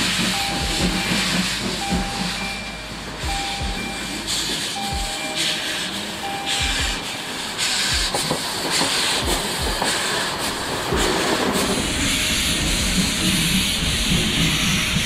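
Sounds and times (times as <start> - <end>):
steam hissing from drain cocks: 0.0 - 15.0
steam locomotive exhaust chuffs: 0.0 - 15.0.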